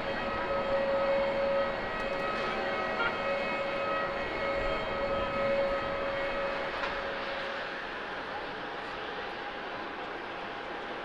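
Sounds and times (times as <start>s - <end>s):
jet engines rushing with whine: 0.0s - 11.0s.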